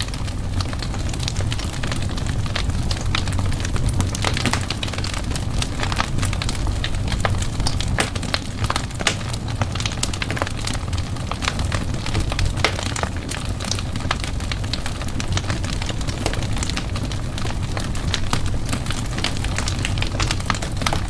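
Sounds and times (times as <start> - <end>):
fire crackling and popping: 0.0 - 21.0
low rumble of flames: 0.0 - 21.0.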